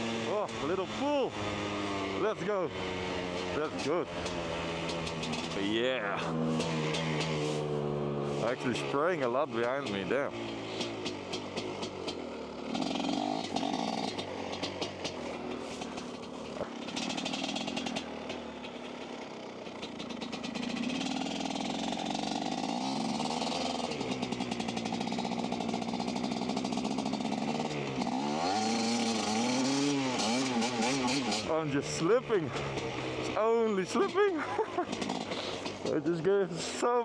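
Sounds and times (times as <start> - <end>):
wheel spinning in snow: 0.0 - 31.6
dirt bike engine revving: 0.0 - 37.0.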